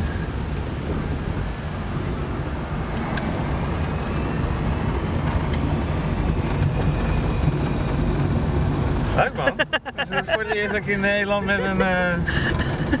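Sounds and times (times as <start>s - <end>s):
car road and drivetrain rumble: 0.0s - 13.0s.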